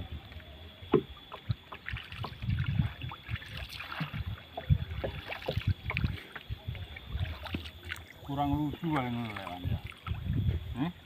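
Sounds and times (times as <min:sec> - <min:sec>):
water sloshing against hull: 0:00.0 - 0:11.0
paddle splashing in water: 0:00.9 - 0:10.4.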